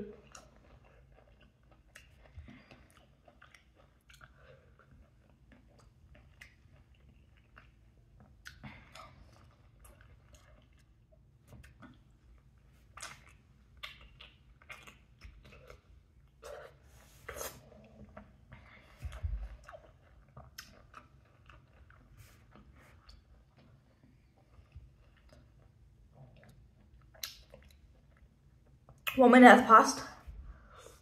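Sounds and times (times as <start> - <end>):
person chewing soft fruit: 0.0 - 29.1.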